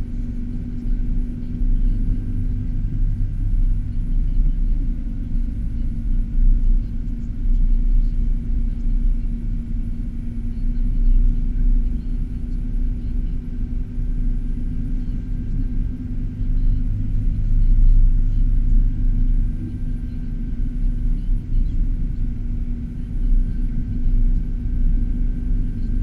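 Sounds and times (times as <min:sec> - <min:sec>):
car driving on snowy road: 0:00.0 - 0:26.0.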